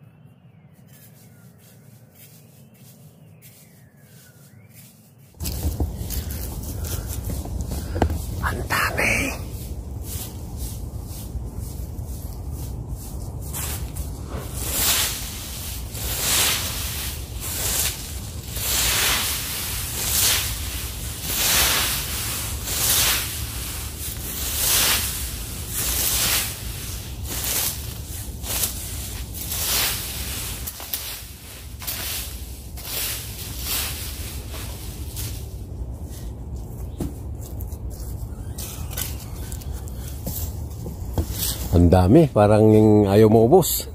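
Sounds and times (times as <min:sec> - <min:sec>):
rake dragged through dry leaves: 0:00.9 - 0:41.9.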